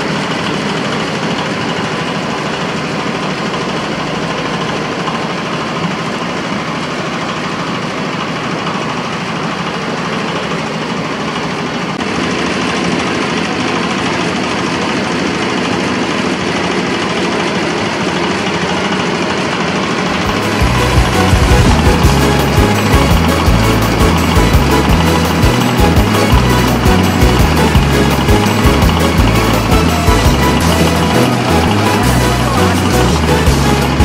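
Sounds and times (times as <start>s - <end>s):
diesel engine running: 0.0s - 34.0s
machine rattling: 0.0s - 34.0s.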